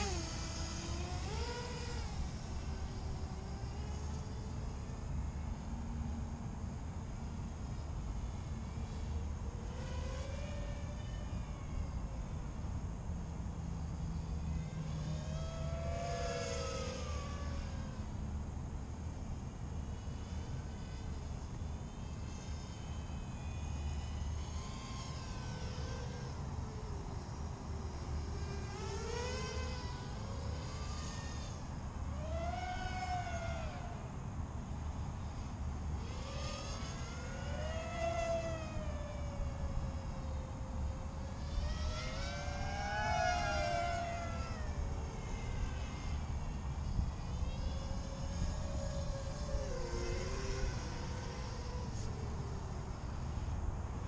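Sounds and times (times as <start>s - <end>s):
drone propellers whining: 0.0s - 54.0s.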